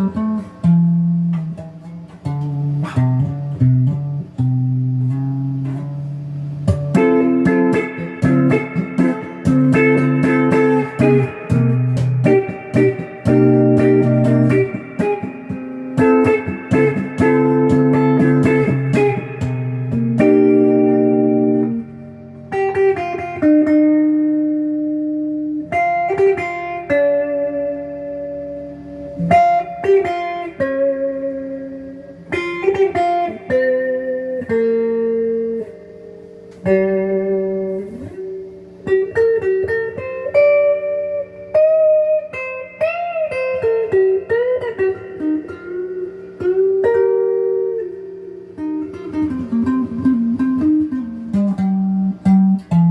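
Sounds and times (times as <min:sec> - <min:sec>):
clean electric guitar: 0:00.0 - 0:52.9.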